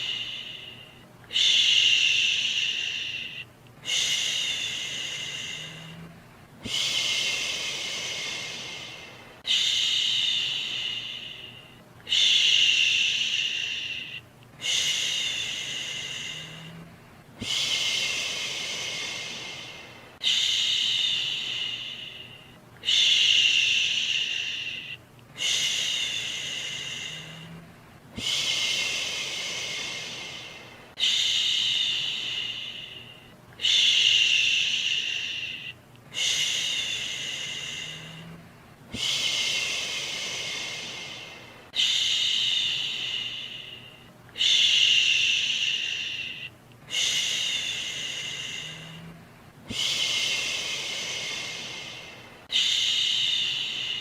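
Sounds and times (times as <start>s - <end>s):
faint white noise hiss: 0.0s - 54.0s
person shushing: 0.0s - 54.0s.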